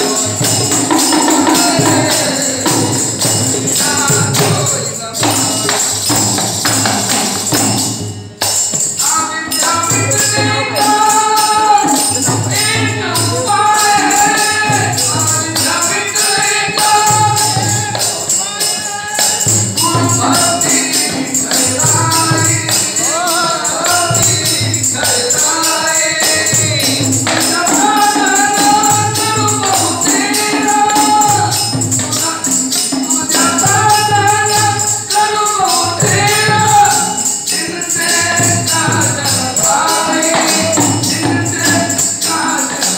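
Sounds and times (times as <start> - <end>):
devotional singing: 0.0 - 42.9
jingling hand percussion: 0.0 - 42.9.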